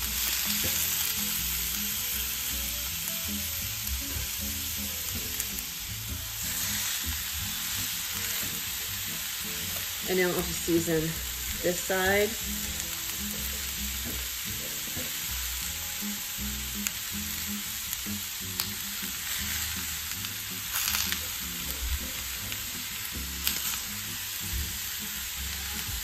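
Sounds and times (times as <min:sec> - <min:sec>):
chicken sizzling in a skillet: 0:00.0 - 0:26.0.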